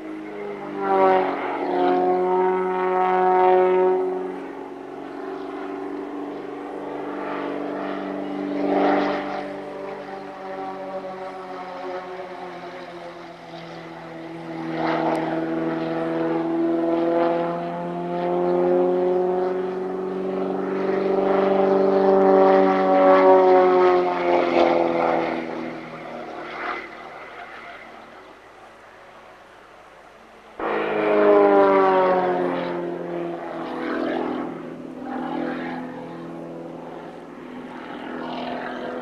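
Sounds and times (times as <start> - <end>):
propeller plane engine: 0.0 - 39.0.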